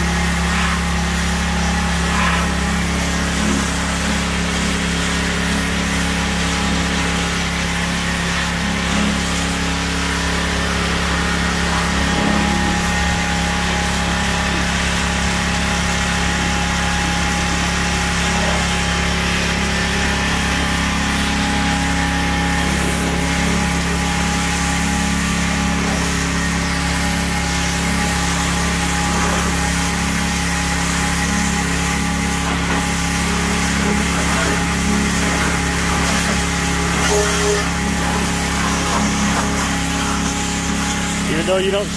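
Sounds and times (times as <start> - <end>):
high-pressure water jet spraying: 0.0 - 41.9
pressure washer motor running: 0.0 - 41.9.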